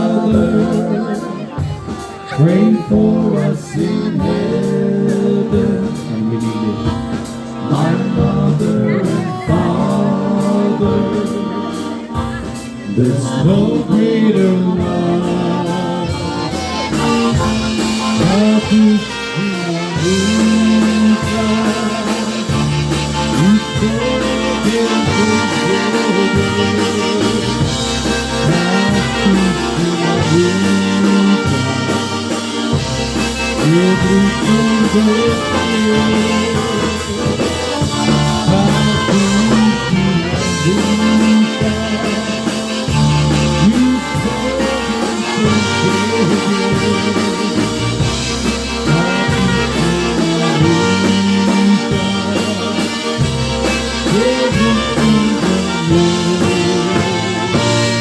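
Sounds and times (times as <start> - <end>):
bass line: 0.0 - 58.0
brass instruments: 0.0 - 58.0
saxophone: 0.0 - 58.0
steady drum beat: 0.0 - 58.0.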